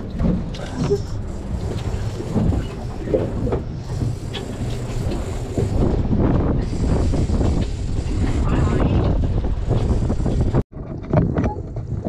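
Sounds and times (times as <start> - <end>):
low rumble and wash of sea: 0.0 - 12.0.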